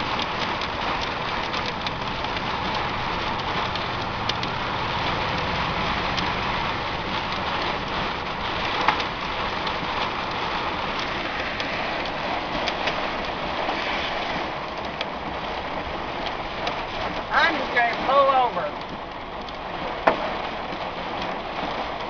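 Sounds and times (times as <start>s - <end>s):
heavy rain on car windshield: 0.0s - 22.0s
low road rumble: 0.0s - 22.0s.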